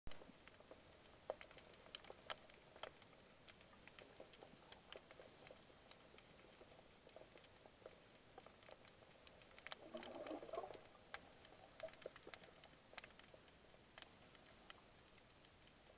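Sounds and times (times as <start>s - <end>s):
quiet hiss: 0.1s - 15.9s
underwater crackle and clicks: 0.1s - 15.9s.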